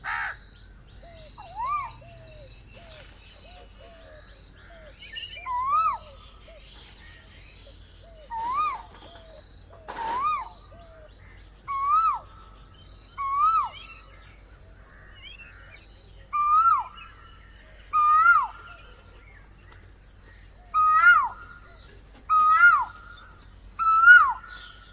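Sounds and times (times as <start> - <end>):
small bird chirps: 1.0 - 24.9
bird calling rising and falling: 1.1 - 7.2, 8.1 - 12.6, 13.2 - 14.2, 15.0 - 19.2, 20.6 - 24.9.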